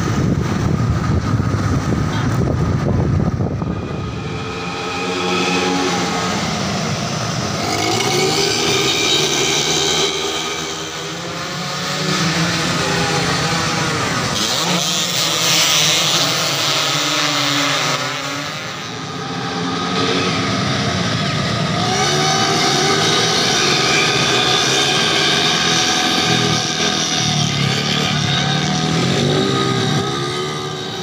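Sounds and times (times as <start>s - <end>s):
motorcycles revving hard: 0.0s - 31.0s.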